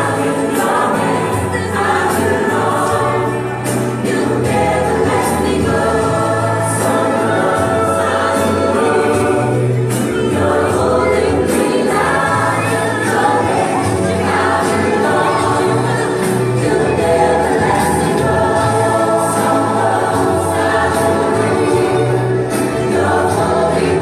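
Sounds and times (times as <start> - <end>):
gospel group singing: 0.0 - 24.0.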